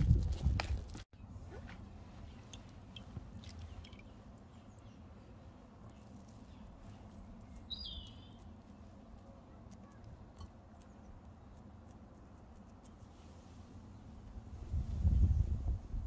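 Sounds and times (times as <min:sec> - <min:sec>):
low steady hum: 0:01.2 - 0:16.0.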